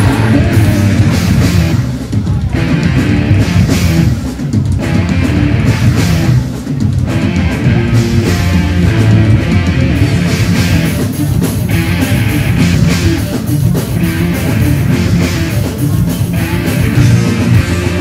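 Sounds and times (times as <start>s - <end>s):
bass guitar: 0.0s - 18.0s
drum kit: 0.0s - 18.0s
live metal band playing: 0.0s - 18.0s.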